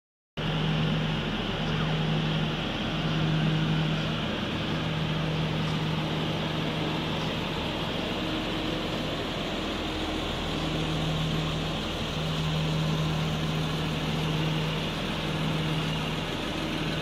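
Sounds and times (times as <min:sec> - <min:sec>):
car engine idling: 0:00.4 - 0:17.0.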